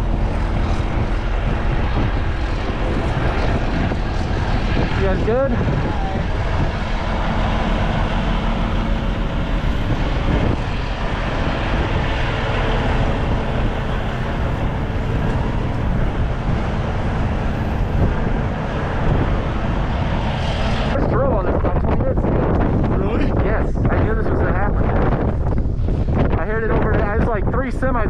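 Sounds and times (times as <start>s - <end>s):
vehicle engines idling: 0.0s - 23.3s
wind rumbling on microphone: 0.0s - 28.0s.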